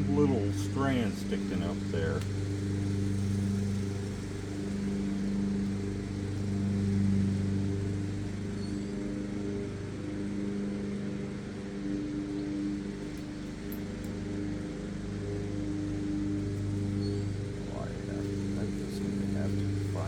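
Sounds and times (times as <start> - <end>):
lawn mower engine humming: 0.0 - 20.0.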